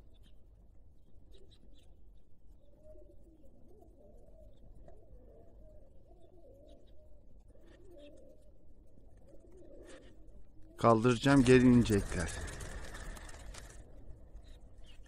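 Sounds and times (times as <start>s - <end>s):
pigeons cooing: 2.6s - 15.0s.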